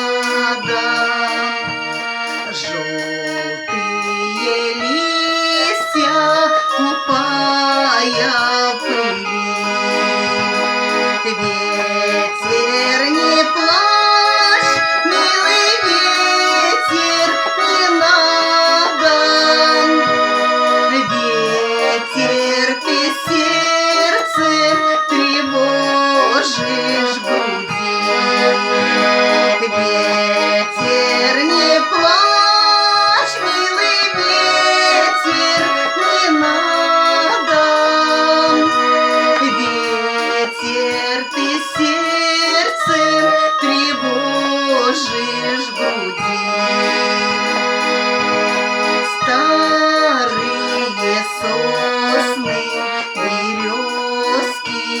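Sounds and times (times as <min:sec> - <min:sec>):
accordion bass chords: 0:00.0 - 0:55.0
button accordion melody: 0:00.0 - 0:55.0.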